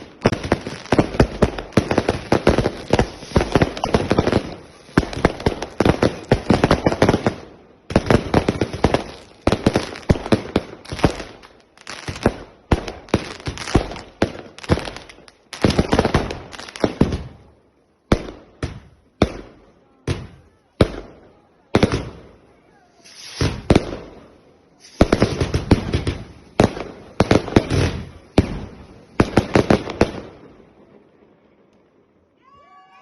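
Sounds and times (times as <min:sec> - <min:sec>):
fireworks bangs and crackle: 0:00.0 - 0:33.0.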